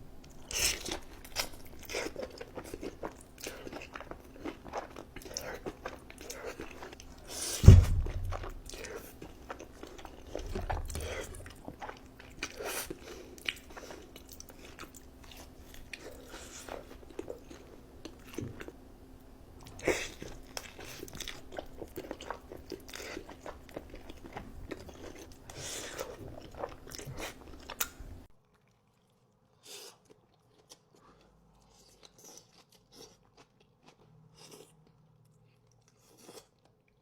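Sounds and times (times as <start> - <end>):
chewing crunchy food: 0.2 - 18.8, 19.6 - 37.0.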